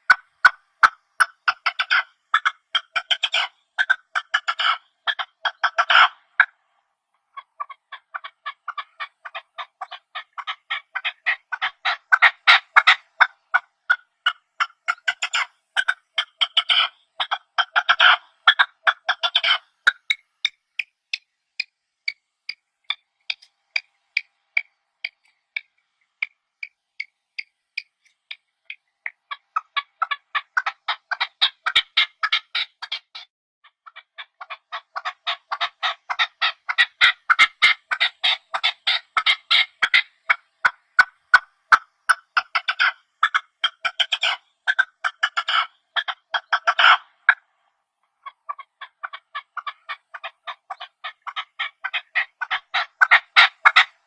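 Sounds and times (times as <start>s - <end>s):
partridge calling: 0.0s - 54.0s.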